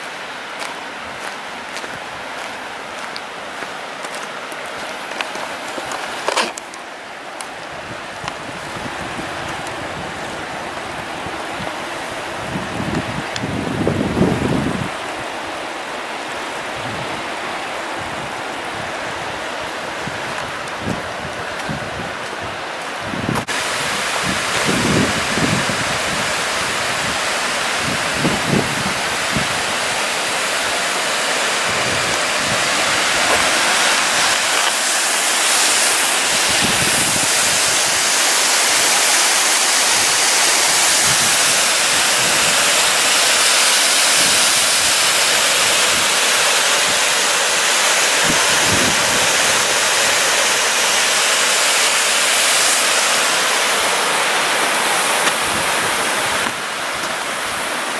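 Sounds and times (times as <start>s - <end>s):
fountain spray falling: 0.0s - 57.9s
water cascading down rock: 0.0s - 57.9s.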